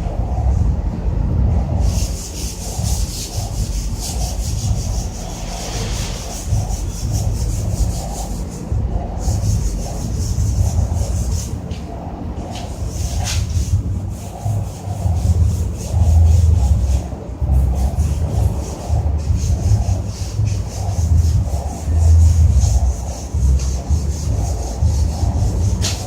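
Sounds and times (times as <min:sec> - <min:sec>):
steady low rumble: 0:00.0 - 0:26.0
hand rubbing a metal surface: 0:01.5 - 0:26.0.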